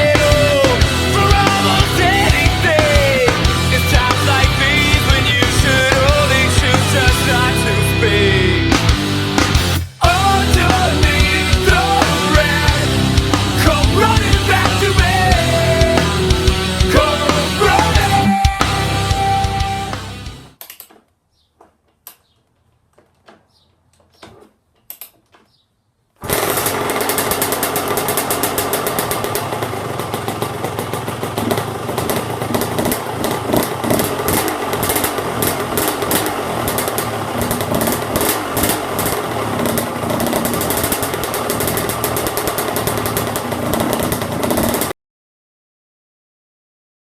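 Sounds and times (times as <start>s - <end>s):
two-stroke engine running: 0.0s - 20.6s, 26.2s - 45.0s.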